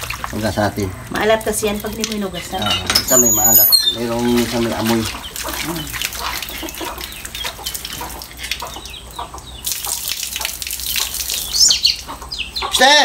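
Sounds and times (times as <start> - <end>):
water running from a spout: 0.0 - 12.2
water sloshing in a steel basin: 0.0 - 12.3.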